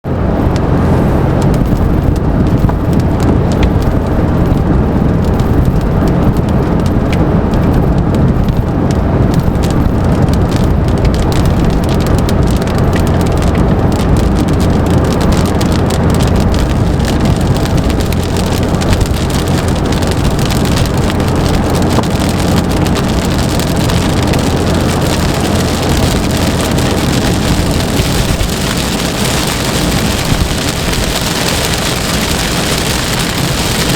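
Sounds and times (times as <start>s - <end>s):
low rumble: 0.0s - 33.9s
heavy rain falling: 0.1s - 33.9s.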